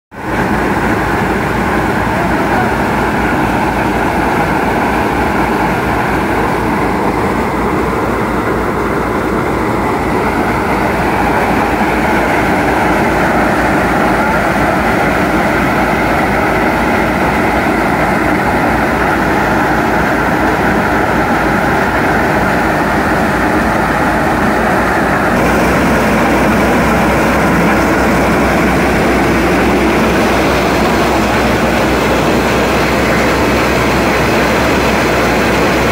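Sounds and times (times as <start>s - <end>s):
tractor diesel engine under load: 0.1s - 35.9s.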